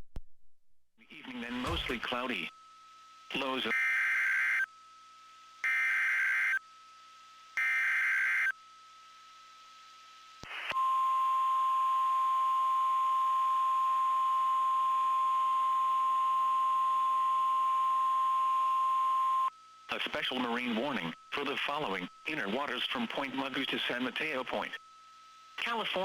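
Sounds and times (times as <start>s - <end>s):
steady warning alarm tone: 1.2s - 6.7s, 7.6s - 8.6s, 10.7s - 26.0s.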